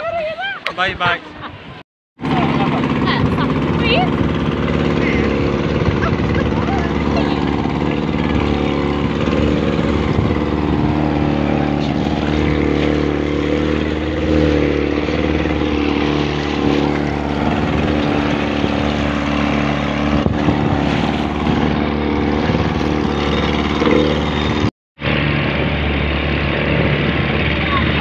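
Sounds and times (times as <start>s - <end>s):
outboard motor running: 2.2s - 28.0s.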